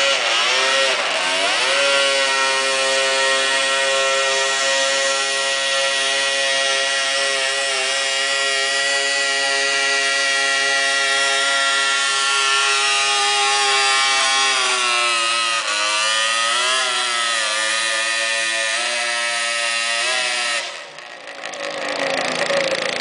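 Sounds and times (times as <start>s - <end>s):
tractor engine labouring: 0.0s - 23.0s.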